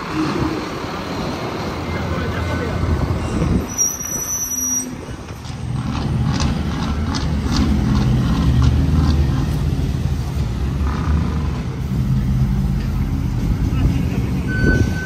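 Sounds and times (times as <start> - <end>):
dump truck diesel engine: 0.0 - 15.0.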